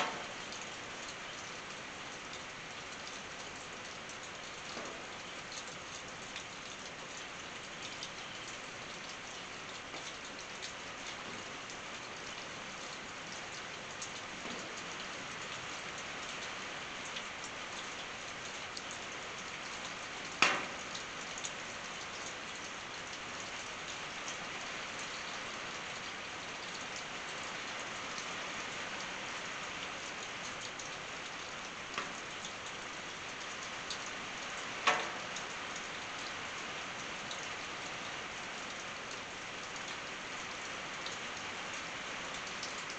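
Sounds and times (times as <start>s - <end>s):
rain on a tin roof: 0.0s - 42.9s.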